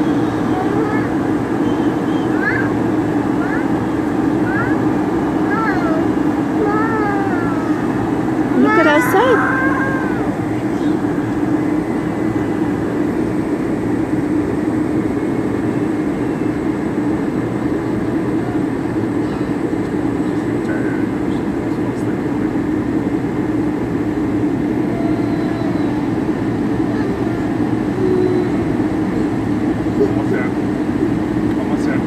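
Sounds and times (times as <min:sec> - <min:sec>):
airliner cabin hum: 0:00.0 - 0:32.0.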